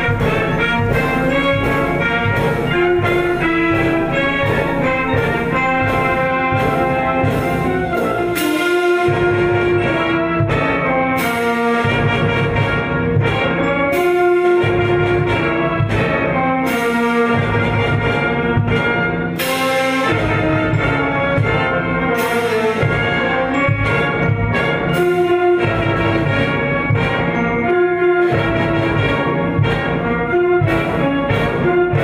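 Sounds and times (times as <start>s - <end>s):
orchestral music led by brass: 0.0s - 32.0s.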